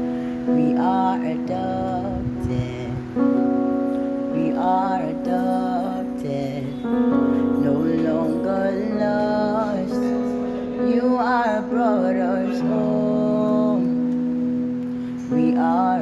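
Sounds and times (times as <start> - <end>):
person singing: 0.0 - 16.0
sustained instrumental chords: 0.0 - 16.0.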